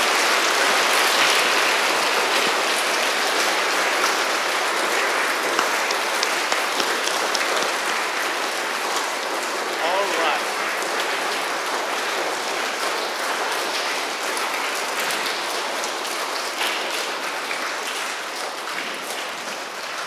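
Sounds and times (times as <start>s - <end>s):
congregation applauding: 0.0s - 19.8s.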